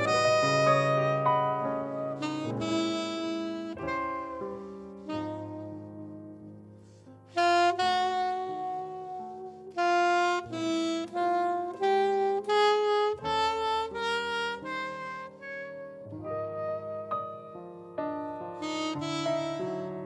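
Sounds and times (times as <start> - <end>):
alto saxophone jazz ballad: 0.0 - 20.0
soft grand piano accompaniment: 0.0 - 20.0.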